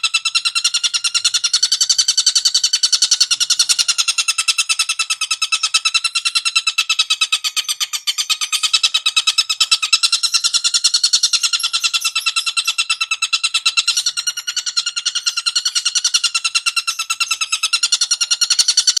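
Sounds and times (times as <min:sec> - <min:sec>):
songbird rattling trill: 0:00.0 - 0:19.0.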